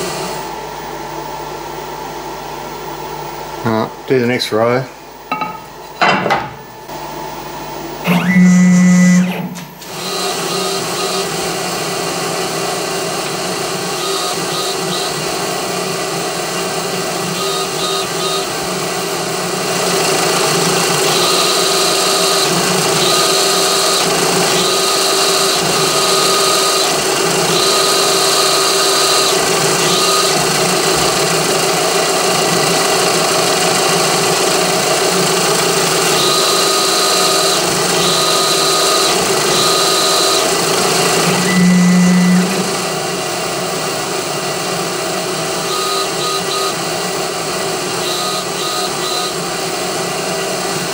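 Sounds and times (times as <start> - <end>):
drill spindle running: 7.8 - 50.9.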